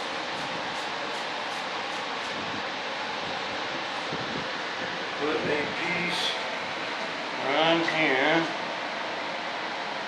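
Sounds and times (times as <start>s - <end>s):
fan running steadily: 0.0s - 10.0s.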